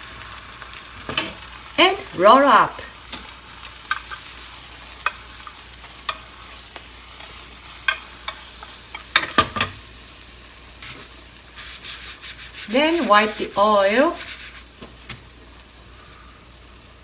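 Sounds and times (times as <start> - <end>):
egg sizzling in a pan: 0.0 - 17.0.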